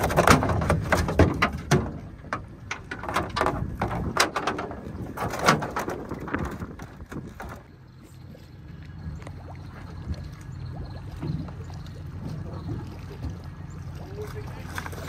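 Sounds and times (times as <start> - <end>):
knocks and clatters in a boat: 0.0 - 15.0
water splashing: 0.0 - 15.0.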